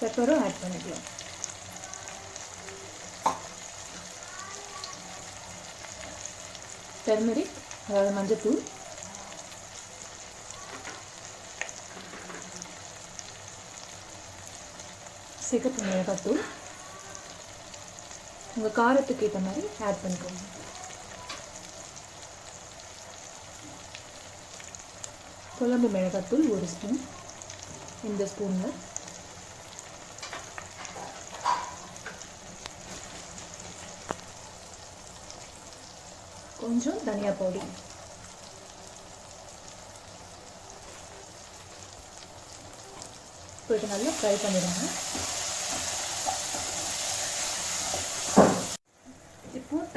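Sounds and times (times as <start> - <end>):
food sizzling in oil: 0.0 - 49.9.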